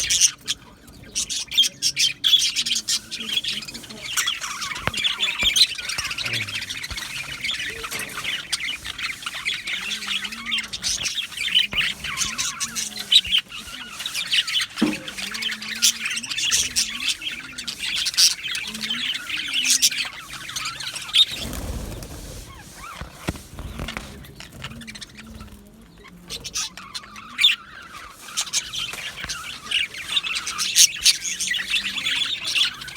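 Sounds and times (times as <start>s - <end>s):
budgerigars chirping and chattering: 0.0s - 32.9s.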